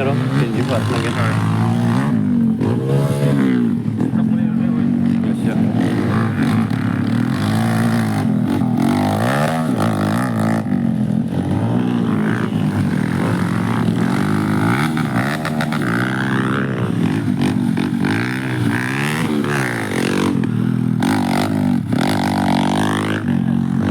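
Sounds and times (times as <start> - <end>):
dirt bike engines revving: 0.0 - 23.9.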